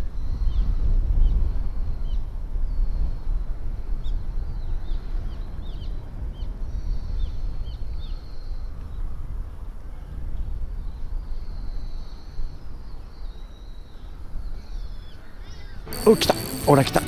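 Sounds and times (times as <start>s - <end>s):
wind buffeting microphone: 0.0s - 15.8s.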